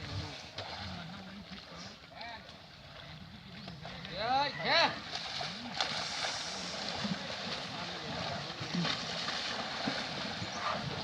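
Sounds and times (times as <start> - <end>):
water: 0.0 - 11.0.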